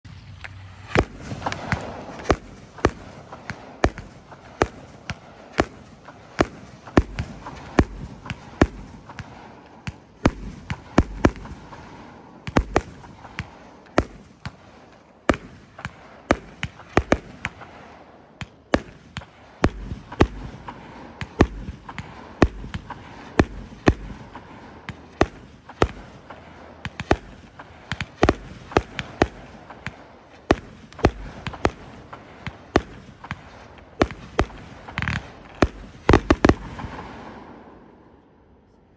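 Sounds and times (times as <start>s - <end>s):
firework launch and burst reports: 0.1s - 14.6s, 15.2s - 38.2s.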